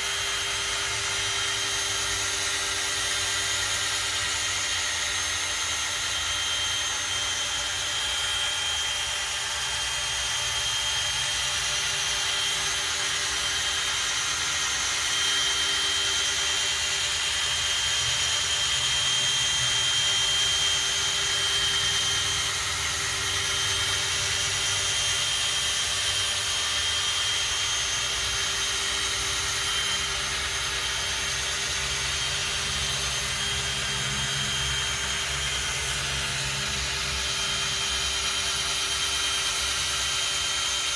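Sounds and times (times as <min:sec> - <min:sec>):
electric drill whining: 0:00.0 - 0:40.9.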